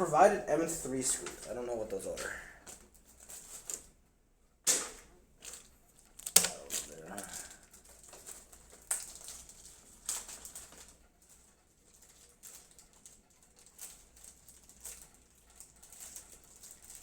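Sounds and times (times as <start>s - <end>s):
faint clicks and rustles of handling: 0.0s - 17.0s.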